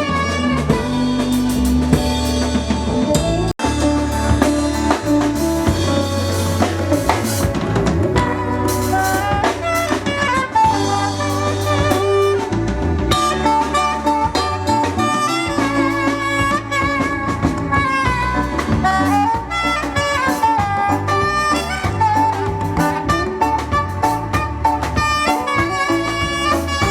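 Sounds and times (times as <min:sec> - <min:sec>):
bass line: 0:00.0 - 0:26.9
drum kit: 0:00.0 - 0:26.9
wind instrument melody: 0:00.0 - 0:26.9.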